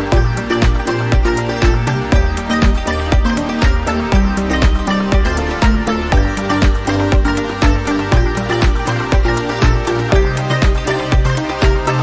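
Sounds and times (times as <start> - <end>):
bass line: 0.0 - 12.0
electronic music with kick drum: 0.0 - 12.0.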